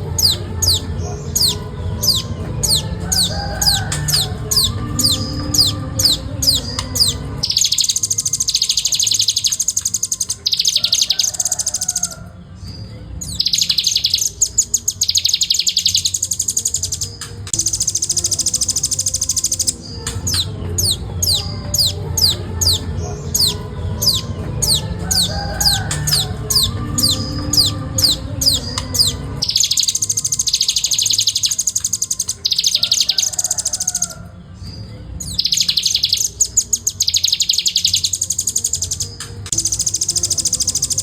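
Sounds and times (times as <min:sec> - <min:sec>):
bird rattling trills: 0:00.0 - 0:12.2, 0:13.3 - 0:34.2, 0:35.3 - 0:41.0.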